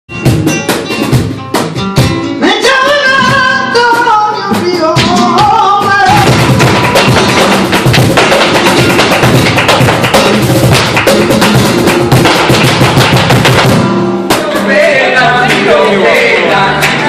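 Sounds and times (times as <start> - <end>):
plucked flamenco guitar: 0.1 - 17.0.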